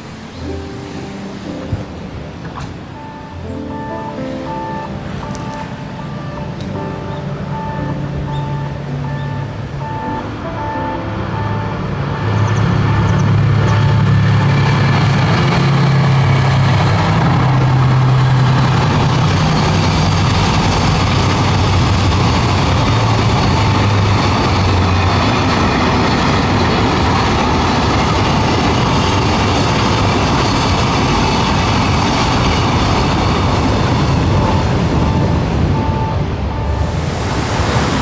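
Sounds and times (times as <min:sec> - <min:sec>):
train rumbling past: 0:00.0 - 0:38.0
low engine drone: 0:03.0 - 0:29.0, 0:29.9 - 0:38.0.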